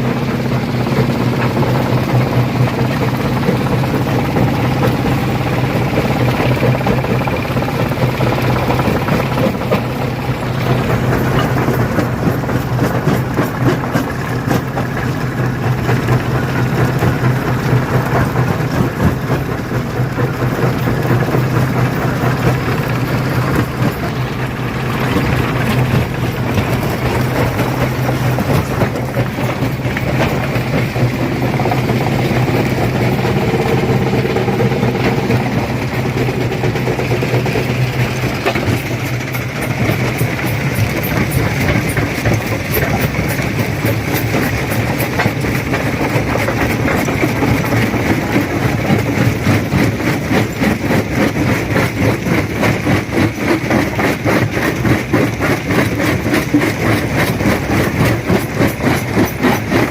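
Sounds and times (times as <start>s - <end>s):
stone crusher drone: 0.0s - 59.9s.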